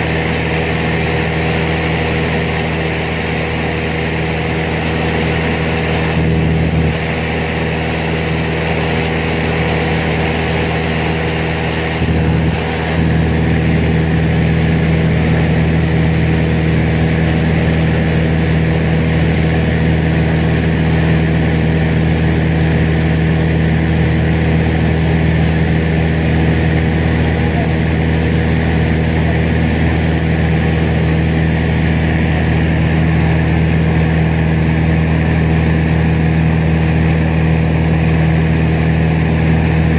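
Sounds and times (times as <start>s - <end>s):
propeller plane engine hum: 0.0s - 39.9s.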